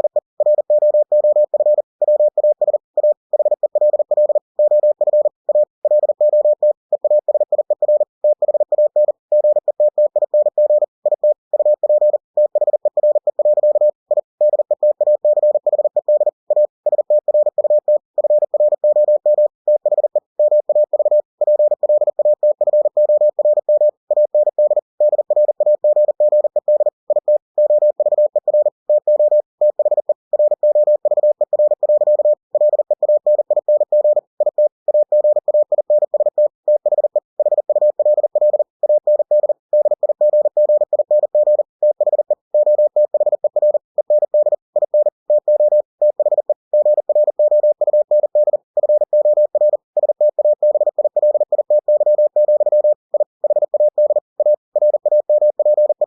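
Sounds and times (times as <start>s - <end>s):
morse code beeps: 0.0s - 56.0s.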